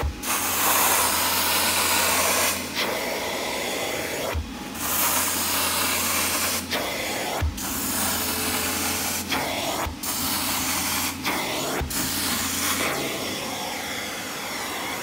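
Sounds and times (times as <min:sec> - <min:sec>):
vacuum motor running: 0:00.0 - 0:15.0.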